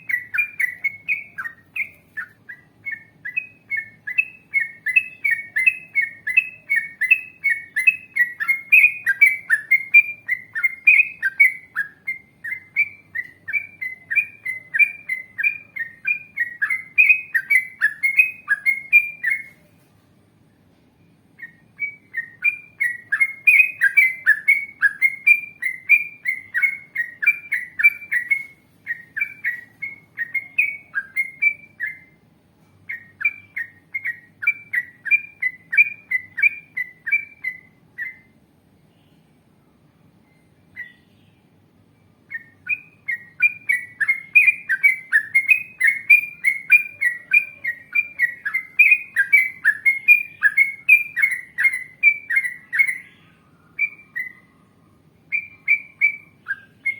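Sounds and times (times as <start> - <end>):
bulbul singing chirping notes: 0.0 - 19.7, 21.1 - 56.9.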